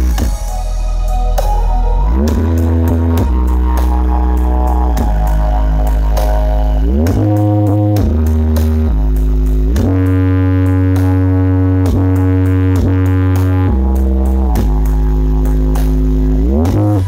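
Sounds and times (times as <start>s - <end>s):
heavy bass line over loudspeakers: 0.0s - 17.0s.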